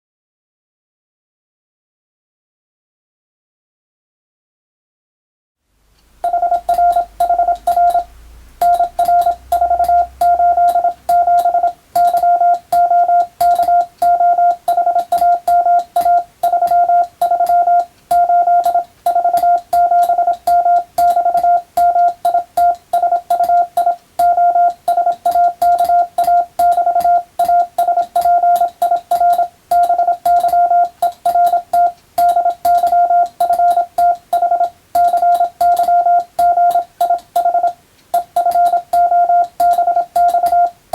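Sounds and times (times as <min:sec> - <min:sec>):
morse code beeps: 0:06.2 - 0:40.8.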